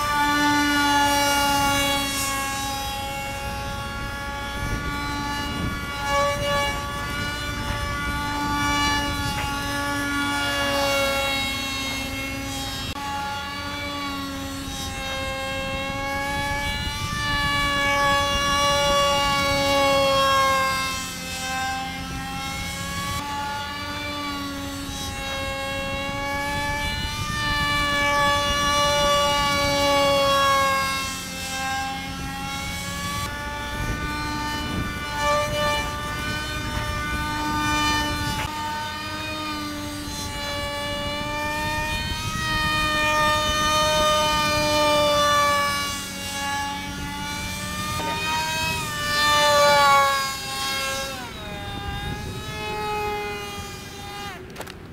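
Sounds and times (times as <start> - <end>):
model jet electric motor whining: 0.0 - 54.9.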